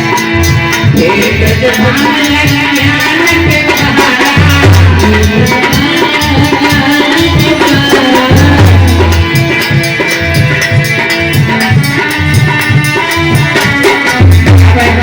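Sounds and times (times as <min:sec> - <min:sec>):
drum and shaker rhythm: 0:00.0 - 0:15.0.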